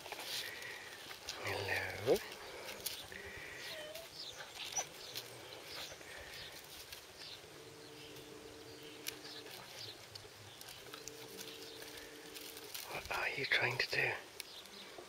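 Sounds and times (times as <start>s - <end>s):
insect buzzing: 0.0s - 13.5s
small birds chirping: 0.0s - 15.0s.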